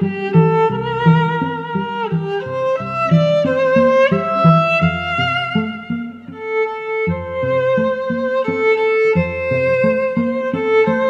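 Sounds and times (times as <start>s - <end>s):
violin melody: 0.0s - 11.0s.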